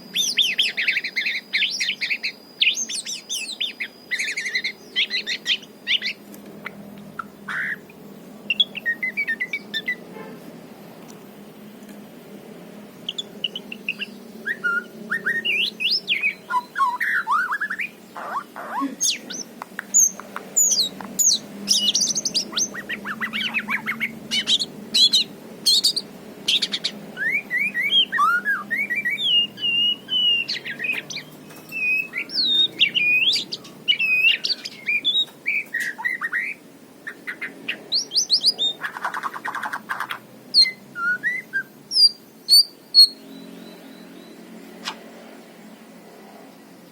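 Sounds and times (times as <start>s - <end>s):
songbird whistles and trills: 0.1s - 7.9s, 8.5s - 10.1s, 13.1s - 45.0s.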